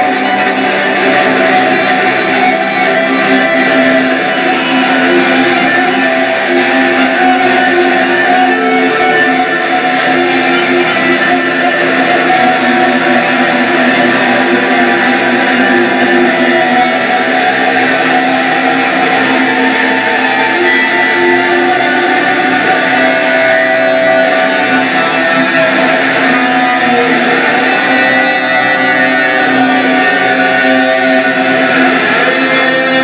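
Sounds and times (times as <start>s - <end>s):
live band playing: 0.0s - 33.0s
strummed guitar: 0.0s - 33.0s.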